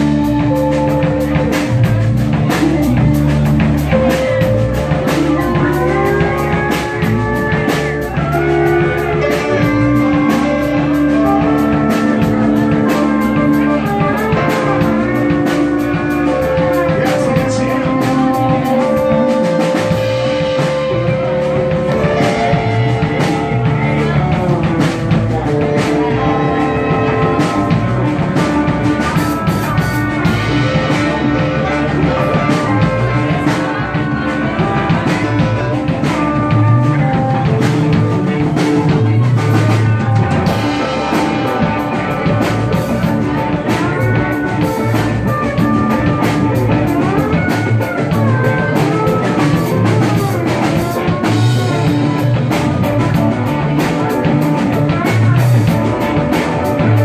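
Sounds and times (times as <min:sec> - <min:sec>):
drum kit beat: 0:00.0 - 0:57.0
electric bass: 0:00.0 - 0:57.0
electric guitars: 0:00.0 - 0:57.0
keyboard: 0:00.0 - 0:57.0.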